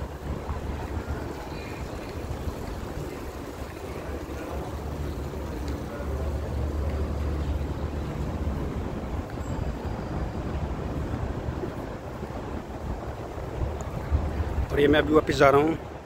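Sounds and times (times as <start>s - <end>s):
outdoor noise: 0.0s - 16.0s
wind buffeting microphone: 0.0s - 16.0s.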